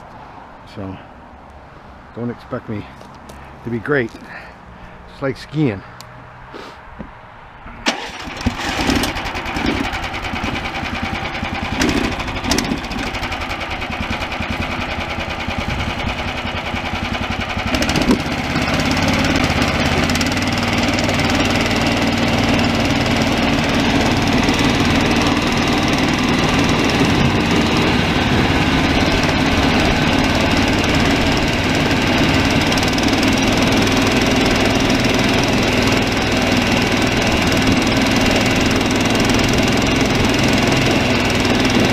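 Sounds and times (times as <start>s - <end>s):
small gasoline engine revving: 7.9s - 41.9s.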